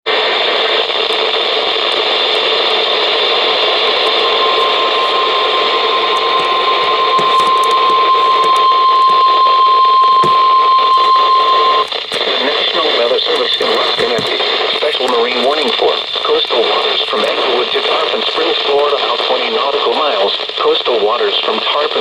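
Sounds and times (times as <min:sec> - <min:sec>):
radio static hiss: 0:00.1 - 0:22.0
steady warning alarm tone: 0:00.2 - 0:20.9.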